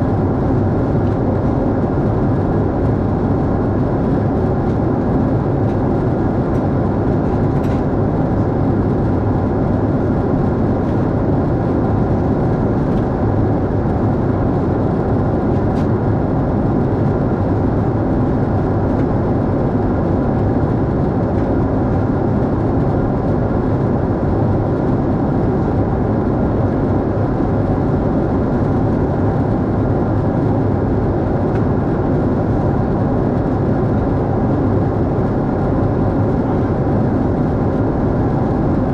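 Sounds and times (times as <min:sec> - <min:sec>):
airplane cabin rumble and hiss: 0:00.0 - 0:38.9.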